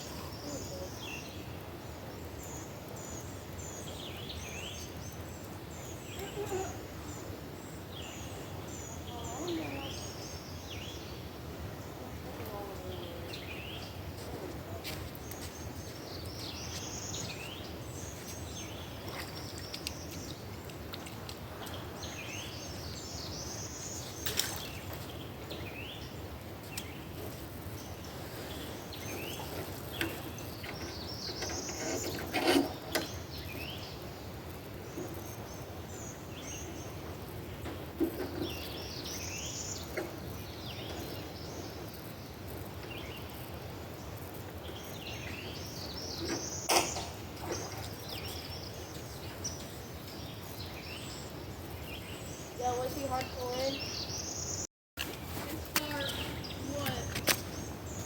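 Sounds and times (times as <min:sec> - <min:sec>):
songbirds chirping: 0:00.0 - 0:58.0
steady outdoor hiss: 0:00.0 - 0:58.0.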